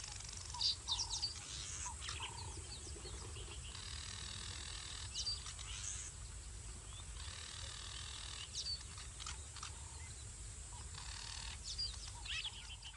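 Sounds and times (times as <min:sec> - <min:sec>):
bird chirps: 0:00.0 - 0:12.9
steady high hiss: 0:00.0 - 0:12.9.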